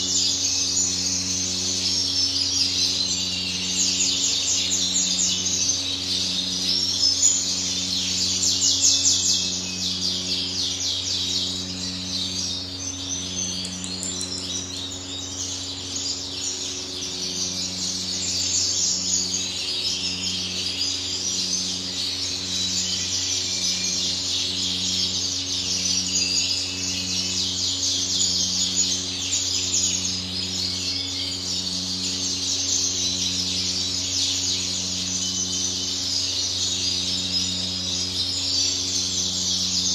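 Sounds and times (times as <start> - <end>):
caged birds chirping: 0.0 - 39.9
faint pulsing drone: 0.0 - 39.9
low electrical hum: 0.0 - 39.9.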